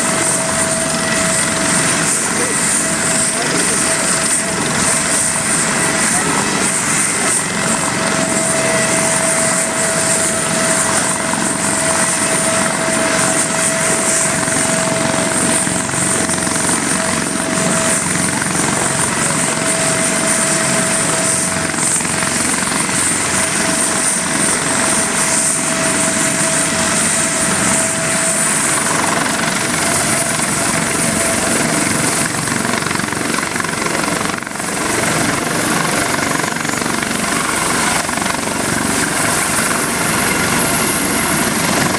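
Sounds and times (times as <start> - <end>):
helicopter rotor noise: 0.0 - 41.9
turbine whine: 0.0 - 41.9.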